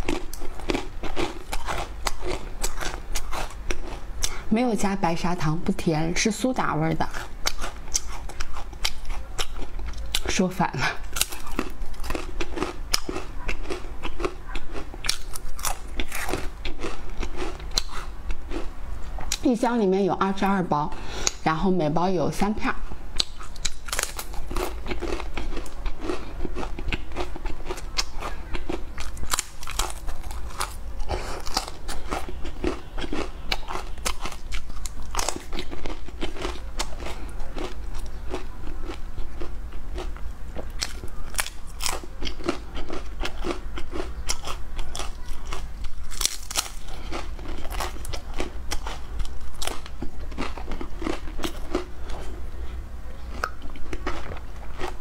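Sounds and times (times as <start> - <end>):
crunching dry crackers: 0.0 - 4.4, 7.1 - 10.4, 11.0 - 19.4, 23.2 - 52.4, 53.2 - 55.0.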